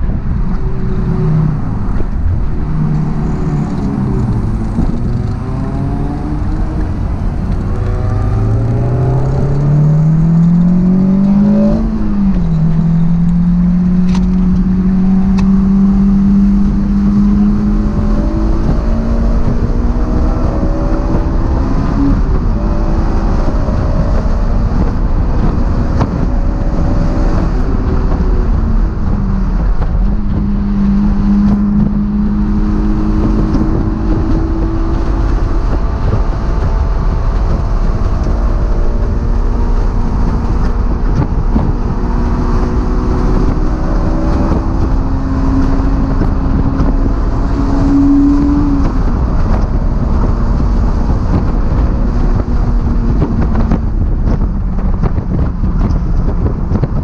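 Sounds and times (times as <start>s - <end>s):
car engine revving: 0.0s - 57.0s
wind noise: 0.0s - 57.0s.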